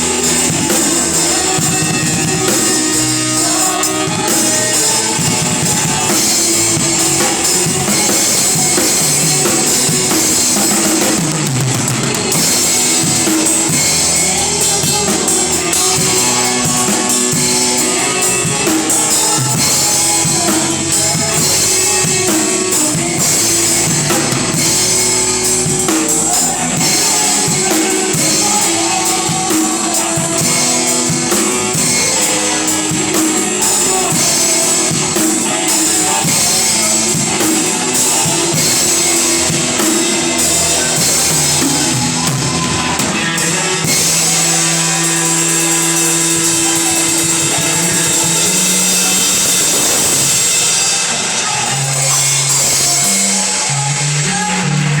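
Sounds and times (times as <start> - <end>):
bass line: 0.0 - 55.0
drum kit: 0.0 - 55.0
electric guitar: 0.0 - 55.0.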